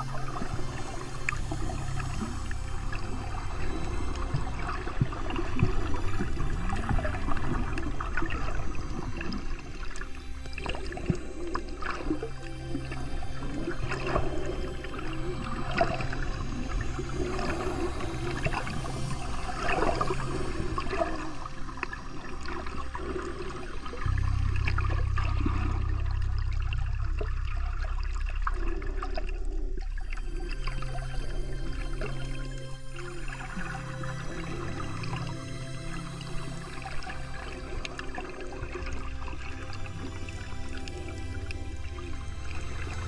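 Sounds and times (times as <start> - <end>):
low droning background music: 0.0 - 43.0
water gurgling and trickling: 0.0 - 43.0.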